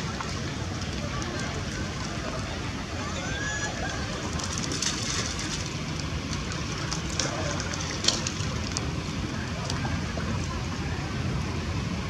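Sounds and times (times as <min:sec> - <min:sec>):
feet splashing in shallow water: 0:00.0 - 0:10.6.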